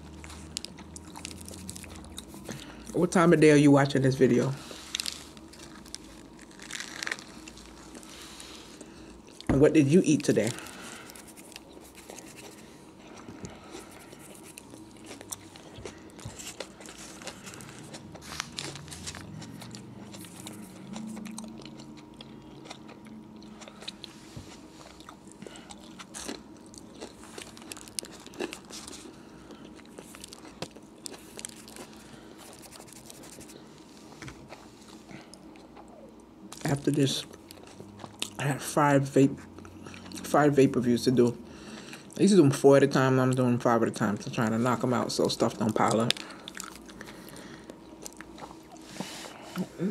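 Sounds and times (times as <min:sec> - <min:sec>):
person chewing sandwich: 0:00.0 - 0:03.0, 0:04.6 - 0:38.4, 0:39.3 - 0:40.4, 0:41.5 - 0:42.2, 0:45.4 - 0:49.9
soft low hum: 0:00.0 - 0:49.9.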